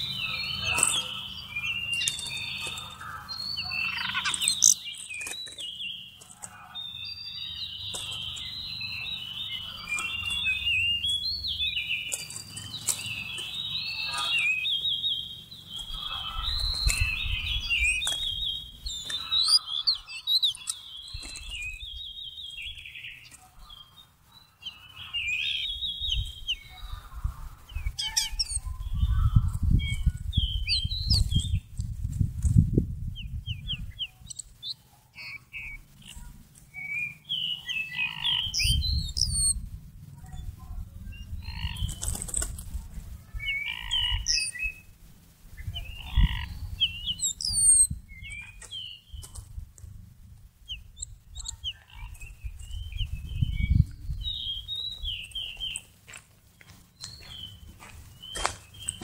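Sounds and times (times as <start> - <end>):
bird singing: 0.0 - 31.9, 32.6 - 59.0.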